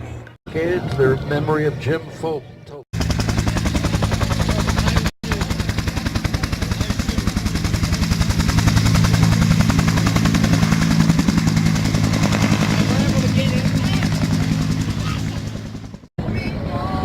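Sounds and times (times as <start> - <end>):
piston aircraft engine running: 3.0 - 16.6.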